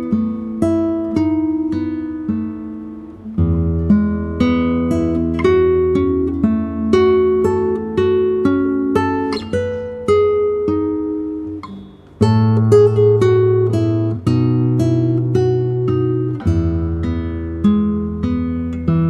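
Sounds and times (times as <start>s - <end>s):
fingerpicked acoustic guitar: 0.0s - 19.0s.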